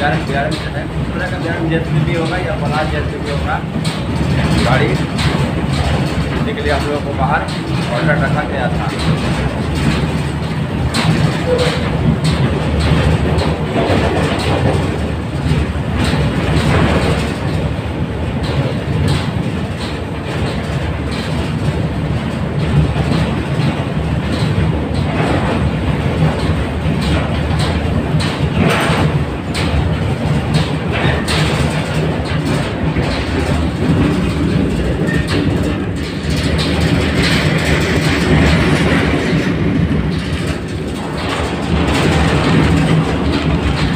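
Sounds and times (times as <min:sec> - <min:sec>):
clatter over rail joints: 0:00.0 - 0:43.9
train wheels rumbling on rail: 0:00.0 - 0:43.9.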